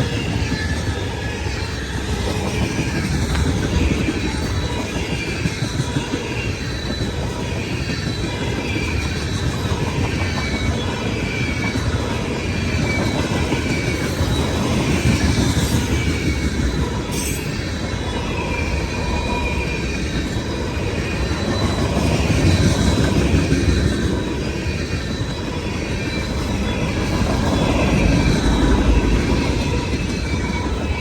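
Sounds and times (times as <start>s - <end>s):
high ringing tones from wheels: 0.0s - 31.0s
train wheels rumbling on rail: 0.0s - 31.0s.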